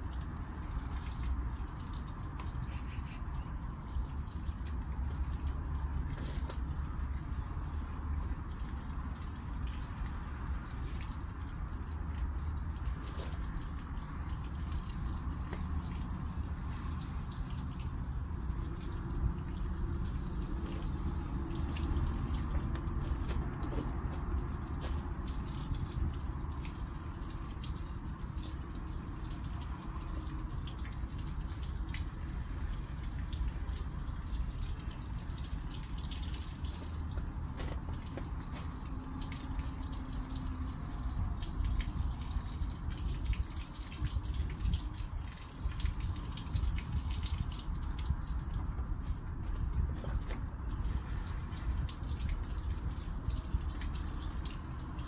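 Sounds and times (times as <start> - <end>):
low steady rumble: 0.0 - 55.0
water spattering onto plants: 0.0 - 55.0.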